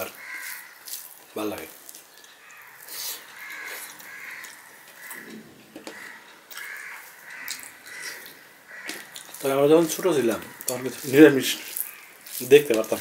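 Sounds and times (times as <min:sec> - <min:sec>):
crow cawing: 0:00.0 - 0:01.1, 0:02.4 - 0:12.4
fingers squeezing rice: 0:00.0 - 0:05.2, 0:06.5 - 0:13.0.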